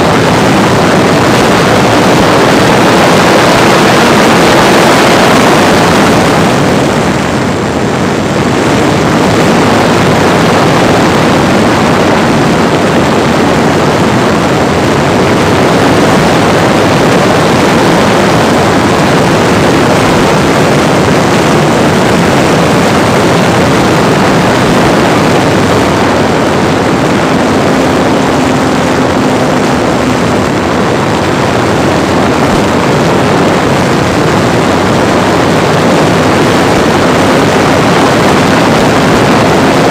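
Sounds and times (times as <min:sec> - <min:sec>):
electric motor and propeller: 0:00.0 - 0:39.9
rush of air: 0:00.0 - 0:39.9.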